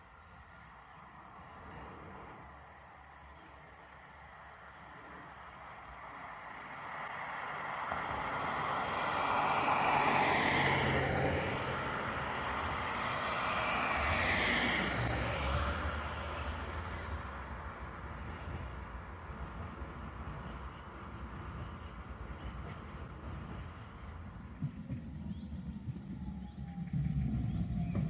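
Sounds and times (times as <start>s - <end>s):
electric tram humming: 0.0s - 28.0s
road traffic passing: 0.0s - 28.0s.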